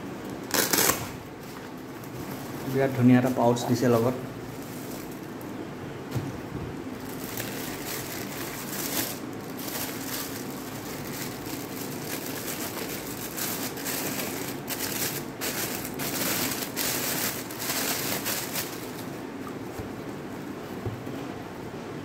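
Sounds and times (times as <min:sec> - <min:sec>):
plastic bag crinkling: 0:00.5 - 0:05.6, 0:07.0 - 0:19.8.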